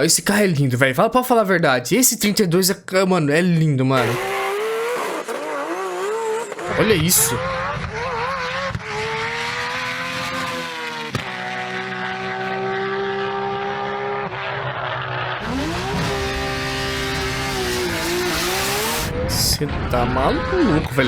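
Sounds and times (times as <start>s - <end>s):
car engine at high revs: 4.0s - 21.0s.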